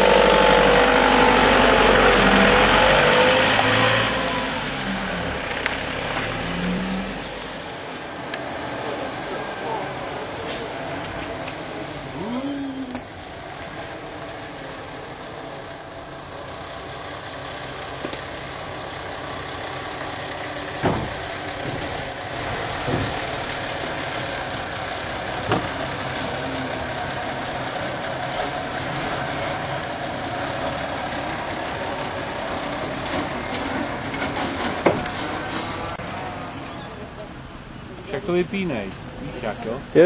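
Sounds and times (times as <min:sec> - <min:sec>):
fire engine diesel engine running: 0:00.0 - 0:40.0.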